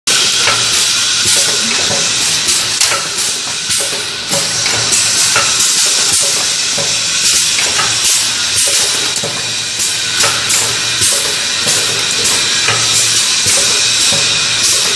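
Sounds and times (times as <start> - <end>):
machine running: 0.1 - 14.9
short machine hisses: 0.1 - 14.9.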